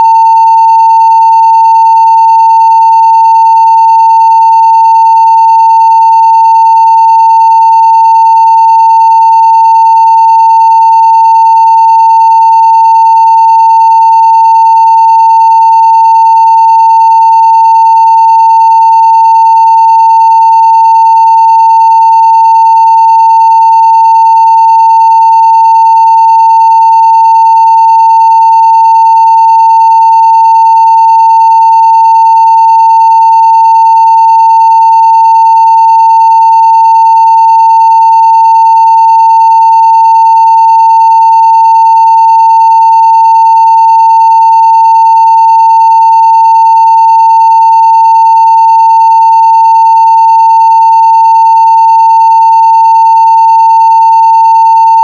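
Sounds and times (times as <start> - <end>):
sine wave test tone: 0.0 - 55.0.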